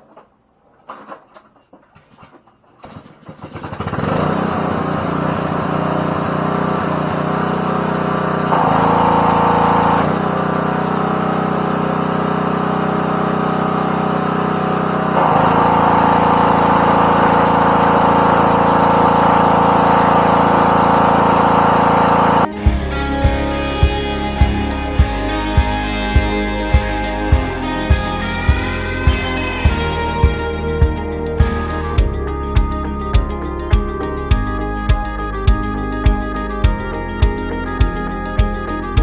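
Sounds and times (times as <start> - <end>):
pressure washer engine running: 3.3 - 39.0.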